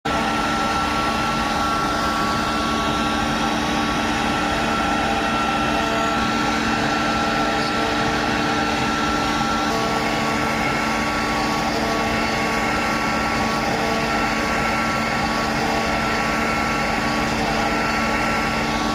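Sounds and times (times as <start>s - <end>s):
cnc machine humming: 0.1s - 18.9s.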